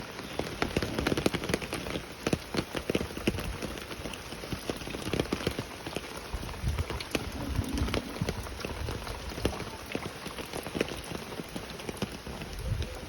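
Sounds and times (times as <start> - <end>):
rain falling: 0.0 - 13.0
raindrops tapping: 0.0 - 13.0.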